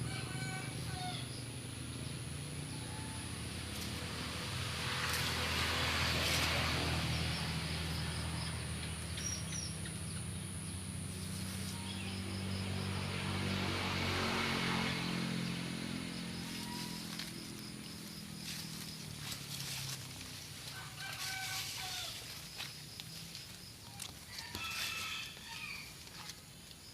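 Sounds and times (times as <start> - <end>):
low engine-like hum: 0.0 - 24.4
high insect drone: 0.0 - 26.9.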